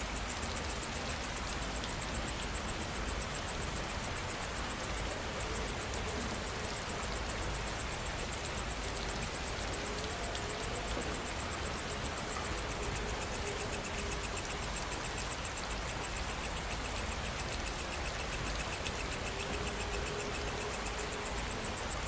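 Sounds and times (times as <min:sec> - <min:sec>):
insects chirping: 0:00.0 - 0:22.0
low insect trill: 0:00.0 - 0:22.0
rain falling: 0:00.0 - 0:22.0.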